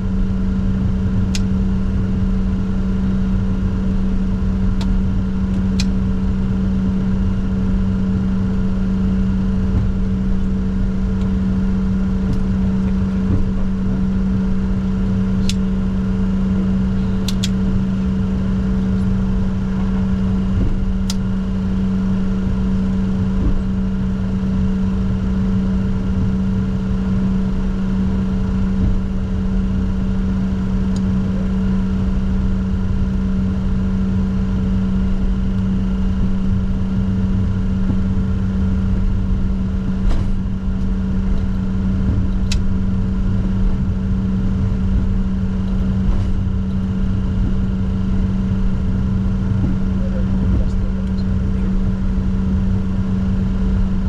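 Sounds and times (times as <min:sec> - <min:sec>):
jet cockpit hum and rumble: 0:00.0 - 0:54.0.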